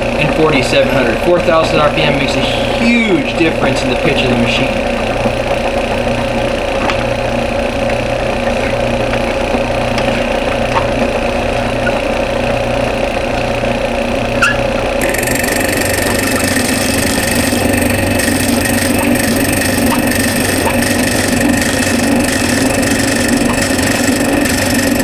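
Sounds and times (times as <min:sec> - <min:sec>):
drill press motor running: 0:00.0 - 0:25.0
end mill cutting wood: 0:00.0 - 0:25.0.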